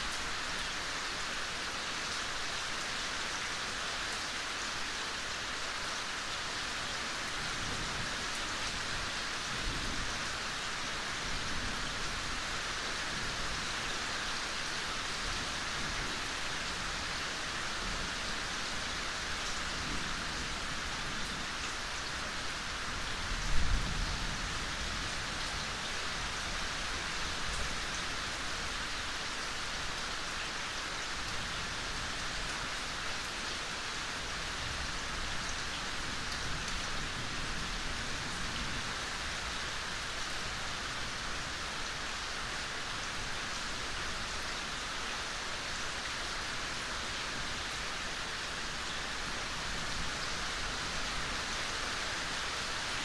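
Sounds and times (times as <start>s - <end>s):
steady soft rain: 0.0s - 53.0s.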